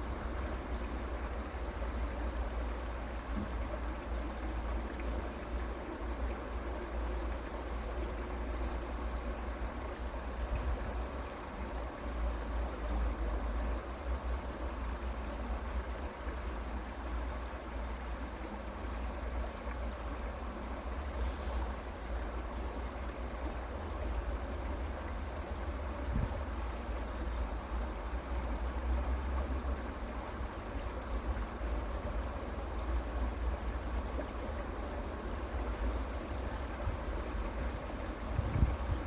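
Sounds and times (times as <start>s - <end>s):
creek water flowing: 0.0s - 39.0s.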